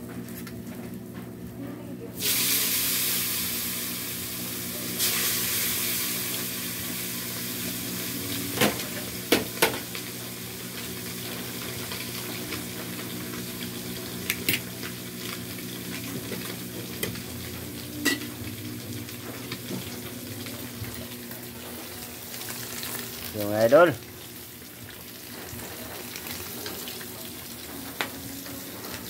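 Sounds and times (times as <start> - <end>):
fish sizzling in hot oil: 2.2 - 29.0.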